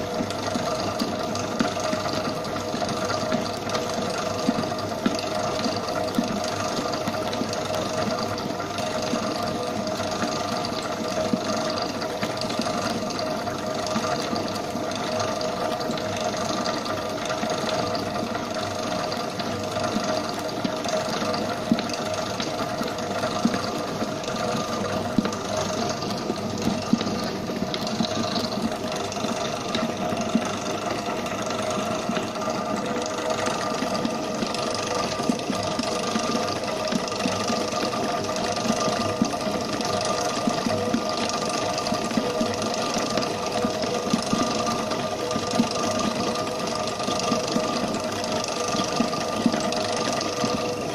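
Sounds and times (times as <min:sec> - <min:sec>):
mixer clicks: 0:00.0 - 0:50.9
stand mixer whining: 0:00.0 - 0:50.9.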